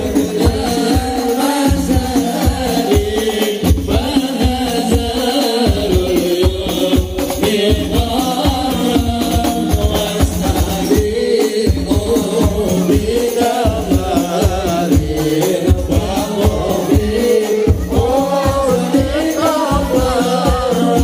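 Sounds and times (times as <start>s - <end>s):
frame drums beating: 0.0s - 21.0s
men singing in unison: 0.0s - 21.0s.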